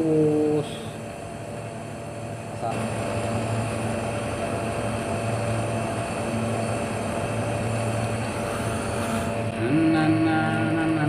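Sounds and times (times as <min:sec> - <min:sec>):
gas torch hissing: 0:00.0 - 0:10.2.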